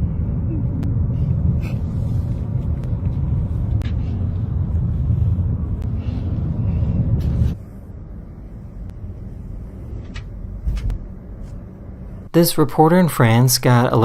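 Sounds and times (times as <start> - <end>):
car driving rumble: 0.0 - 12.3
road and wind noise: 0.0 - 12.3.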